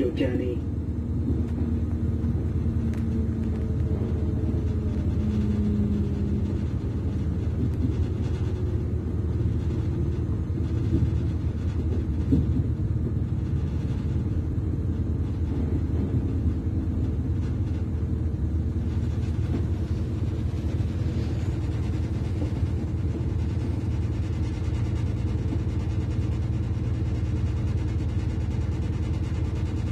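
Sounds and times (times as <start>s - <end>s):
train diesel engine rumble: 0.0s - 29.9s
wheels on the track: 0.0s - 29.9s.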